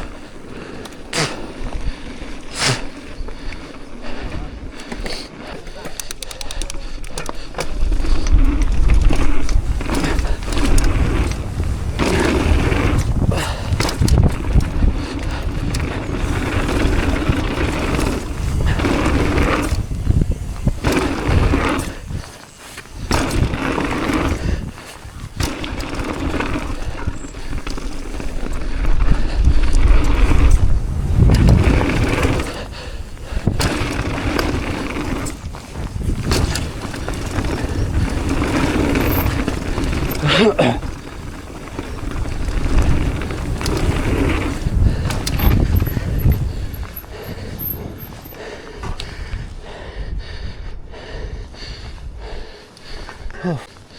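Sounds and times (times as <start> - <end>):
bike chain and frame rattling: 0.0 - 49.6
tyres rumbling over dirt: 0.0 - 49.7
wind buffeting microphone: 6.4 - 53.9.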